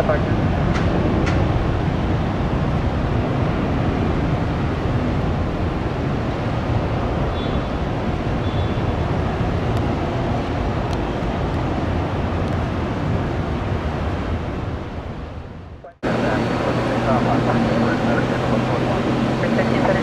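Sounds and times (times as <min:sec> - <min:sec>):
jet airliner engines roaring: 0:00.0 - 0:20.0.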